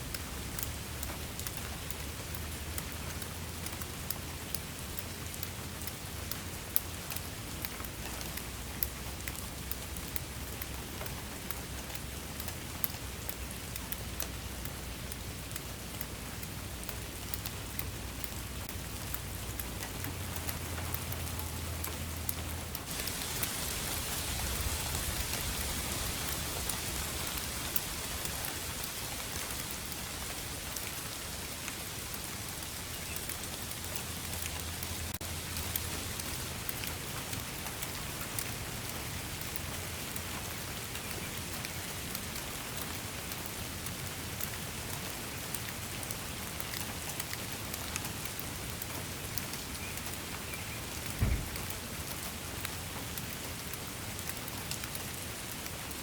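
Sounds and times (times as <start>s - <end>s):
rain falling: 0.0s - 56.0s
raindrops tapping: 0.1s - 56.0s.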